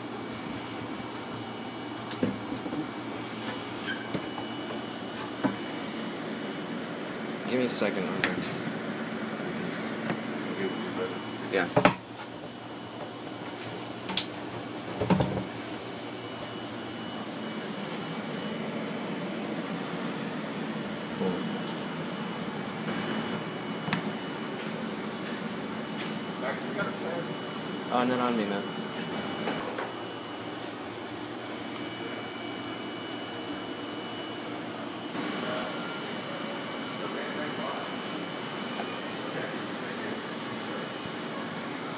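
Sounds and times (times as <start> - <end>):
steady mechanical hum: 0.0 - 41.9
faint high whine: 3.0 - 13.1, 15.0 - 41.9.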